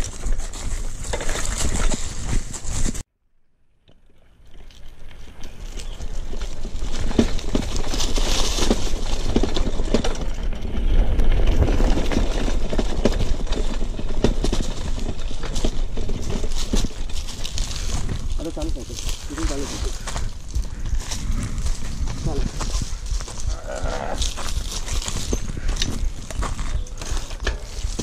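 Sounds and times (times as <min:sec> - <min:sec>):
bike rattling over bumps: 0:00.0 - 0:03.0, 0:04.3 - 0:28.0
tyres crunching over leaves: 0:00.0 - 0:03.0, 0:04.6 - 0:28.0
wind rumbling on microphone: 0:00.0 - 0:03.0, 0:04.9 - 0:28.0.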